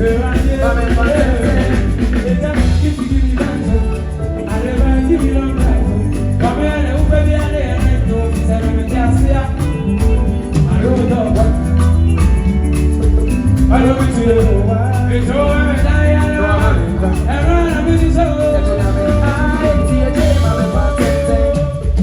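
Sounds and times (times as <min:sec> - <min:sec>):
live band playing: 0:00.0 - 0:22.0
wavering melody line: 0:00.0 - 0:22.0.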